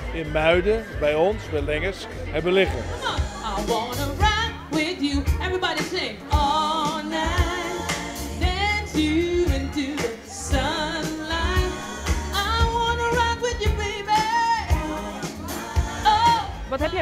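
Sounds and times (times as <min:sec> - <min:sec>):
pop backing music with beat: 0:00.0 - 0:17.0
woman singing with vibrato: 0:02.9 - 0:17.0.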